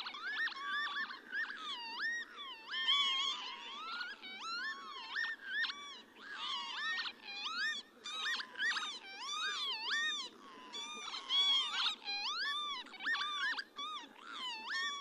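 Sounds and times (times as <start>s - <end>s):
lapwings calling: 0.0s - 15.0s.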